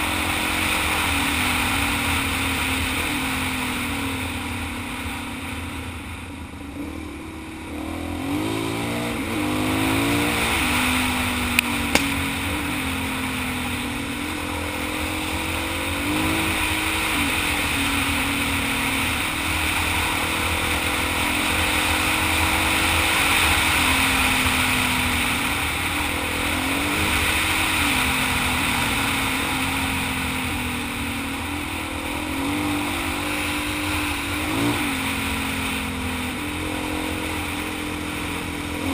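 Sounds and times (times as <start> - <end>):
motorcycle engine revving: 0.0 - 38.9
steady rushing noise: 0.0 - 38.9.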